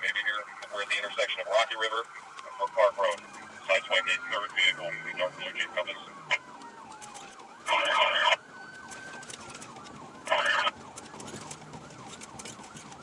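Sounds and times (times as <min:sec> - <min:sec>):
police siren yelp and wail: 0:00.0 - 0:13.0.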